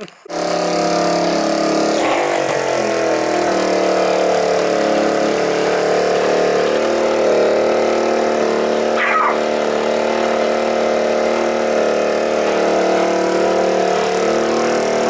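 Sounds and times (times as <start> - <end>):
small engine fast idle: 0.2 - 15.0.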